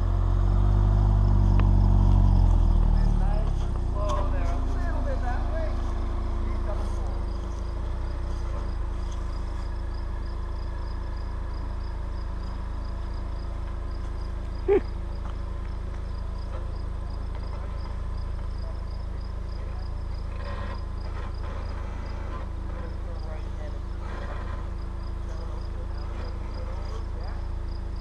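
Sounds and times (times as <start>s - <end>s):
suv engine humming: 0.0s - 28.0s
insects chirping: 0.5s - 28.0s.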